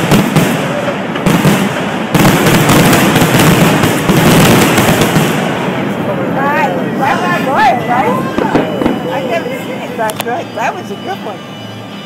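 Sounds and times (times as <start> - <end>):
fireworks bursting and crackling: 0.0 - 10.3.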